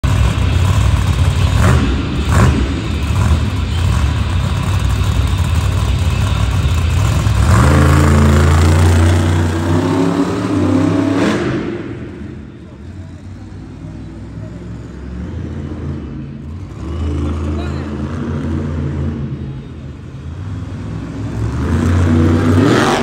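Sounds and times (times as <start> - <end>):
truck engine rumbling and revving: 0.0 - 23.0.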